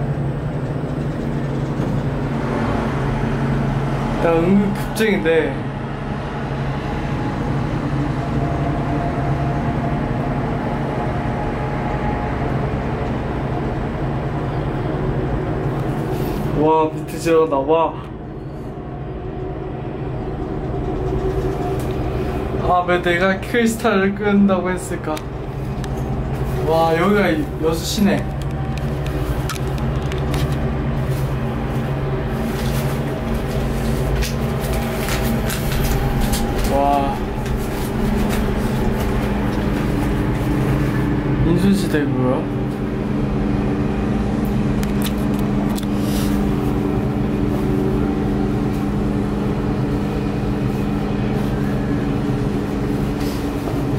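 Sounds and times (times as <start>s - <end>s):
cable car mechanical hum: 0.0s - 53.9s.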